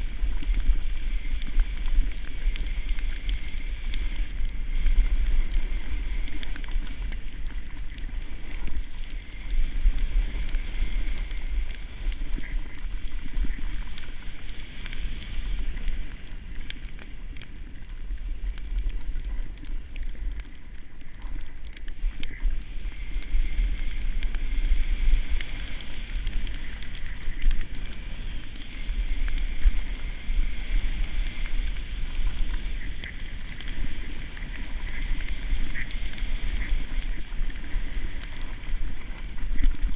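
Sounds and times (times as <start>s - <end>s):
snowboard sliding over snow: 0.0s - 20.0s, 22.0s - 39.9s.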